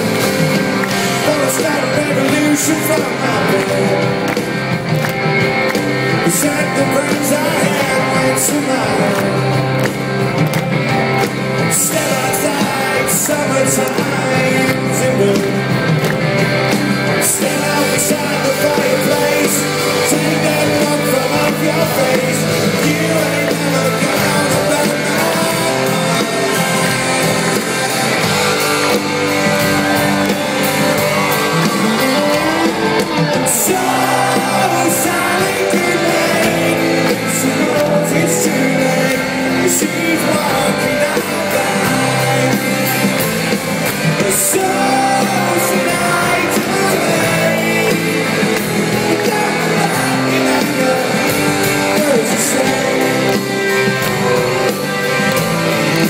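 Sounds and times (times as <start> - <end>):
electric guitars: 0.0 - 56.0
live rock band playing: 0.0 - 56.0
person singing: 0.0 - 56.0.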